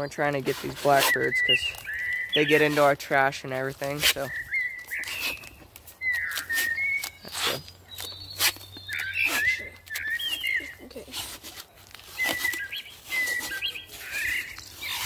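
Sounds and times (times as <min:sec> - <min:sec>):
recorded bird chirps from speaker: 0:00.0 - 0:11.2, 0:12.0 - 0:15.0.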